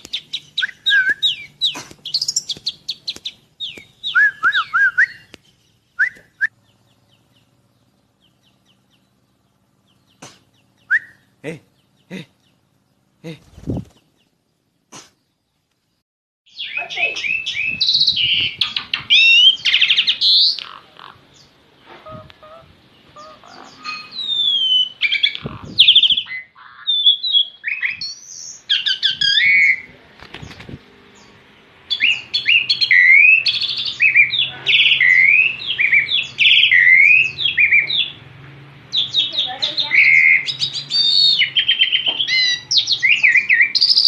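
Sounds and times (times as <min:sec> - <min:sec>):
songbird singing: 0:00.0 - 0:44.0.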